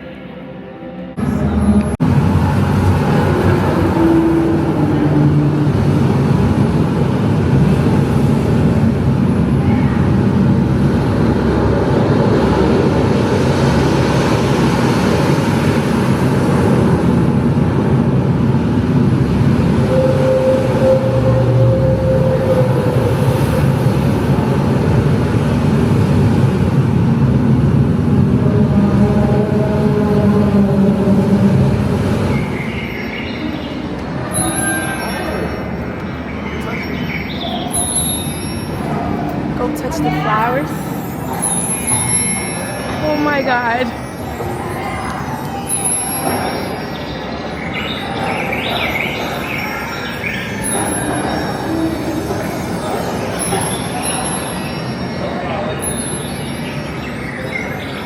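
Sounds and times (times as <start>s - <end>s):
vehicle rumble and rush: 1.0s - 47.6s.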